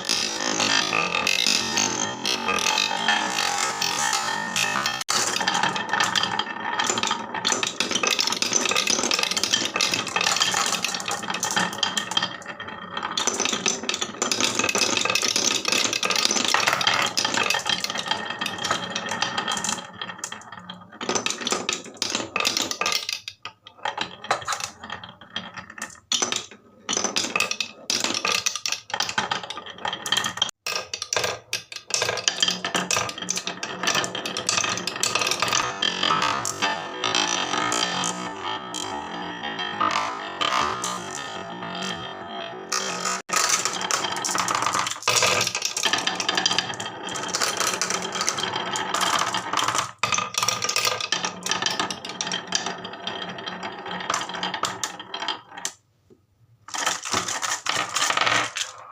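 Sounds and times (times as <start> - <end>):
marbles rattling down wooden run: 0.0 - 55.8, 56.7 - 58.9.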